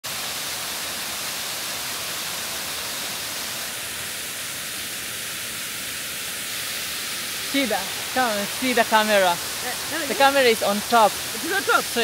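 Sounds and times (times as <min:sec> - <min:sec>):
rushing water hiss: 0:00.0 - 0:12.0.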